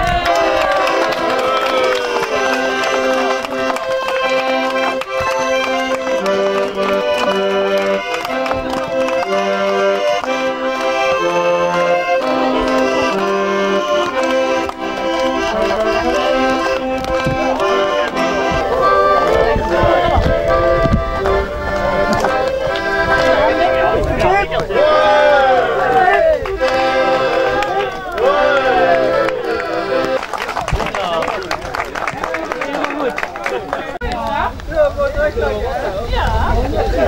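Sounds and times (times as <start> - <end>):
sustained melody notes: 0.0 - 30.6.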